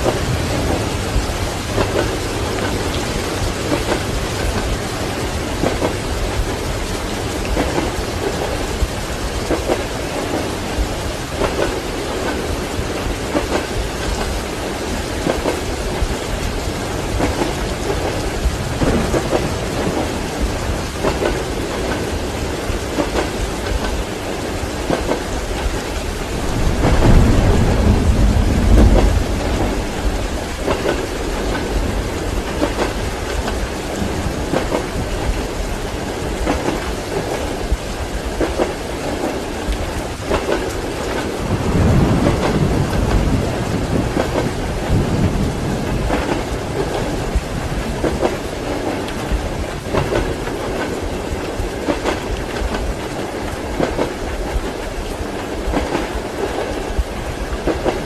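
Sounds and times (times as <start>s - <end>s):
faint train running: 0.0s - 58.0s
rolling thunder: 0.0s - 58.0s
steady rain: 0.0s - 58.0s.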